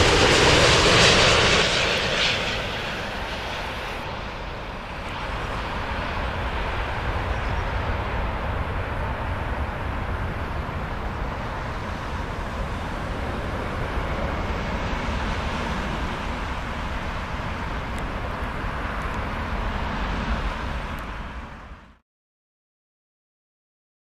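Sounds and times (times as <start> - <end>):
constant low rumble: 0.0 - 22.0
road traffic passing close by: 2.5 - 22.0.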